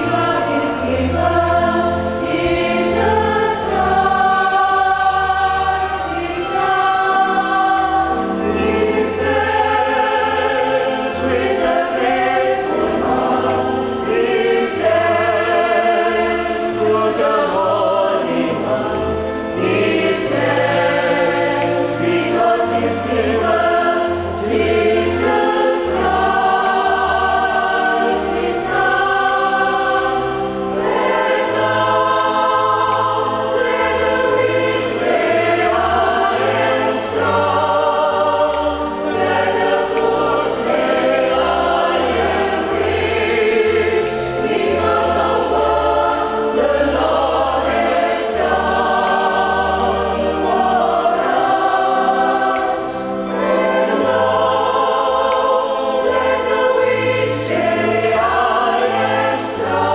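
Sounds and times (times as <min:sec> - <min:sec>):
choir singing a hymn: 0:00.0 - 0:59.9
organ bass notes: 0:00.0 - 0:59.9.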